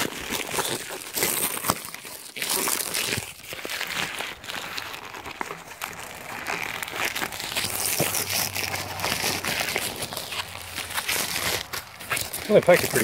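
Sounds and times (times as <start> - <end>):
plastic mailer crinkling: 0.0 - 13.0.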